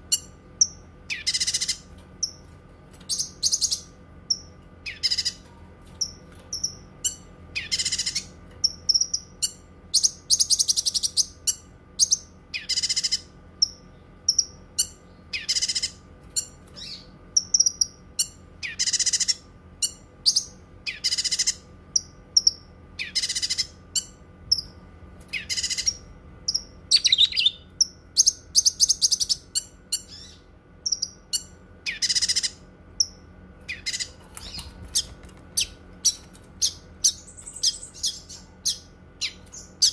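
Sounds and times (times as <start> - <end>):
bird singing rasping calls: 0.0 - 2.4, 3.1 - 5.4, 6.0 - 24.7, 25.3 - 39.9
high bird chips and trills: 0.0 - 39.9.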